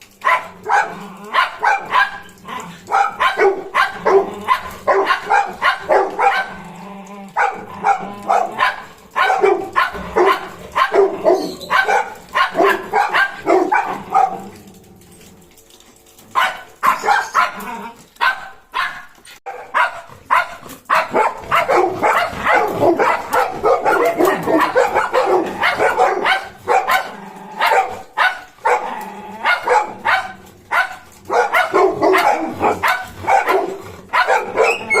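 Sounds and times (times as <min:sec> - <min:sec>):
dogs barking: 0:00.0 - 0:35.0.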